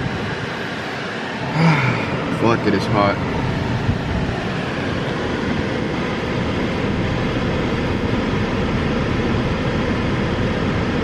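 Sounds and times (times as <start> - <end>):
car air conditioning fan blowing: 0.0 - 11.0.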